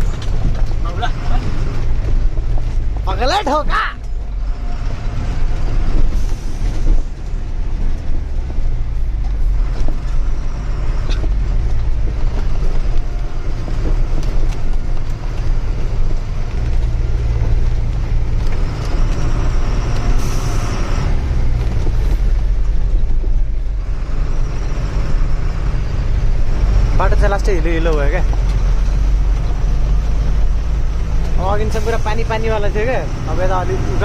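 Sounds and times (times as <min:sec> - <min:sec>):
diesel truck engine droning: 0:00.0 - 0:34.0.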